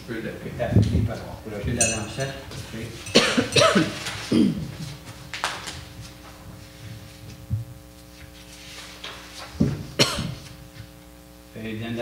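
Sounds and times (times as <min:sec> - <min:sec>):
faint electrical hum: 0:00.0 - 0:12.0
paper sheets being handled: 0:00.8 - 0:11.0.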